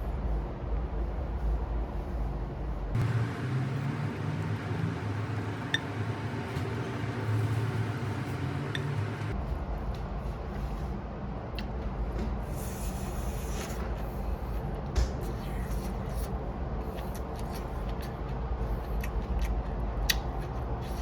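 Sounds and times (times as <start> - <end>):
low kitchen hum: 0.0 - 21.0.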